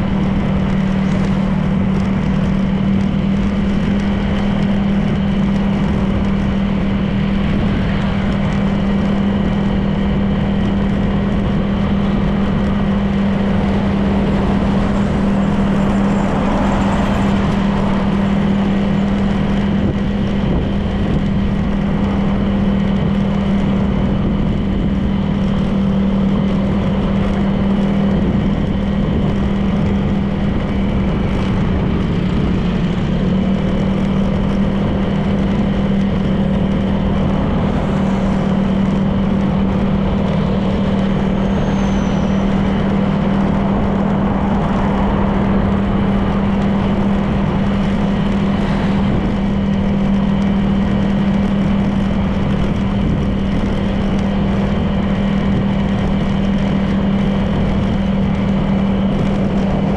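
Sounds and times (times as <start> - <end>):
road and wind noise: 0.0 - 59.9
scooter engine drone: 0.0 - 59.9.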